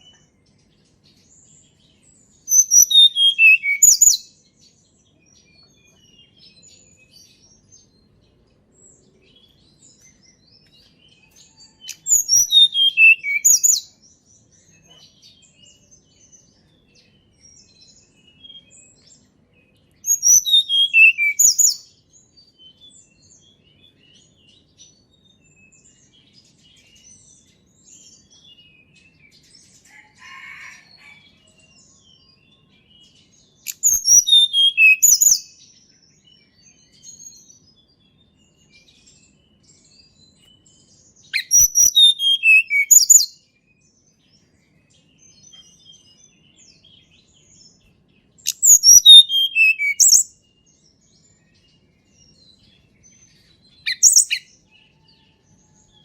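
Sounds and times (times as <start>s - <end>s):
bird singing falling phrases: 0.0s - 56.0s.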